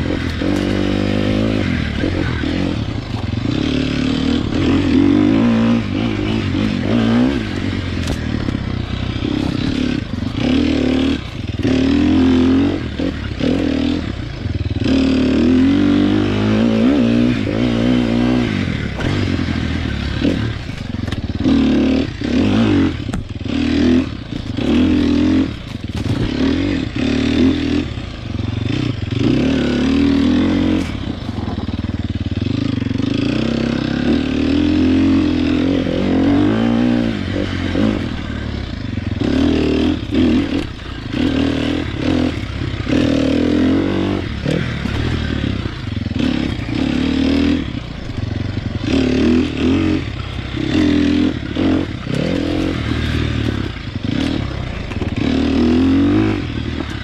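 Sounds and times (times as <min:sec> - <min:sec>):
motorcycle clattering over terrain: 0:00.0 - 0:57.0
motorcycle engine revving: 0:00.0 - 0:57.0.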